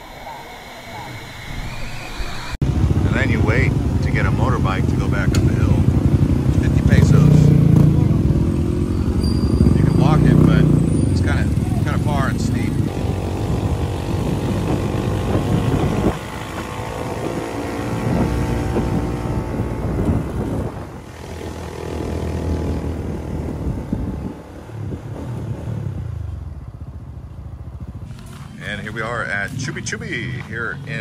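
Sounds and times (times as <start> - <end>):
motorbike engine running: 2.6 - 28.8.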